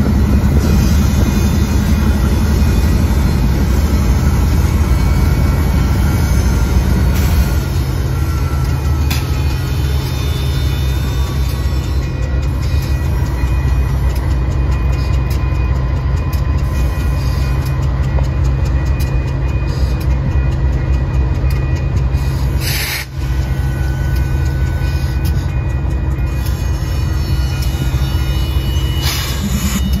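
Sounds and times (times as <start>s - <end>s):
diesel locomotive engine rumble: 0.0s - 30.0s
wheels clicking on rails: 0.0s - 30.0s.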